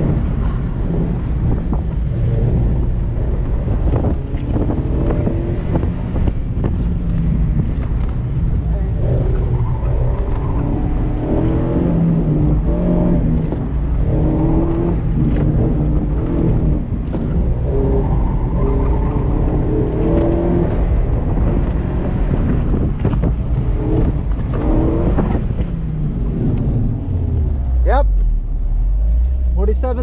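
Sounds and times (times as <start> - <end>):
wind rushing: 0.0 - 27.9
car engine revving: 0.0 - 30.0.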